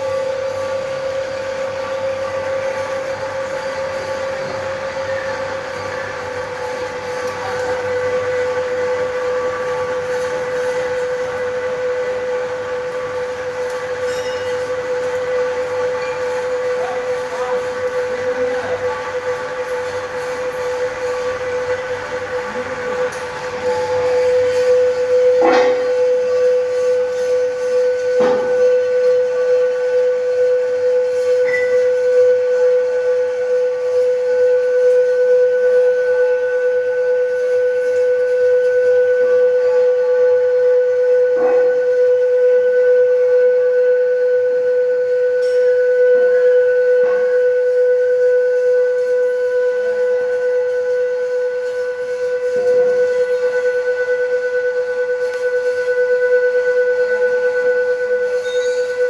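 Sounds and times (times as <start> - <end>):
metal lathe whining: 0.0 - 59.0.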